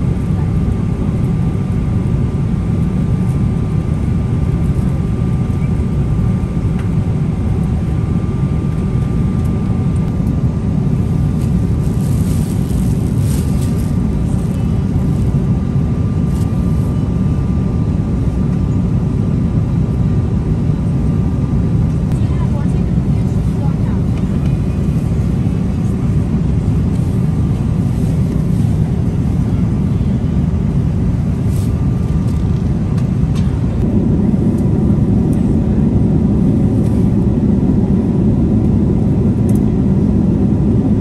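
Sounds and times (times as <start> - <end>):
airliner cabin roar: 0.0 - 41.0.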